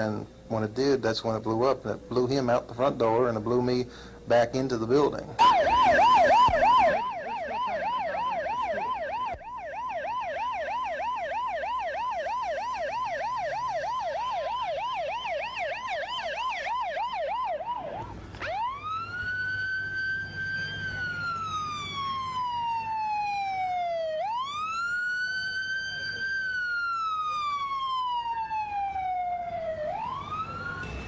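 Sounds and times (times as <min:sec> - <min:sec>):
emergency vehicle siren: 0:00.0 - 0:31.0.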